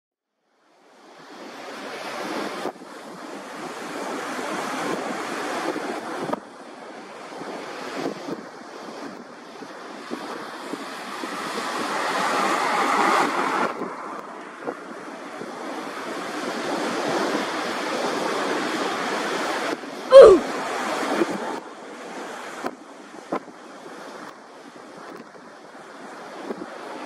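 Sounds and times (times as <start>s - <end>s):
wind noise on microphone: 1.0s - 27.0s.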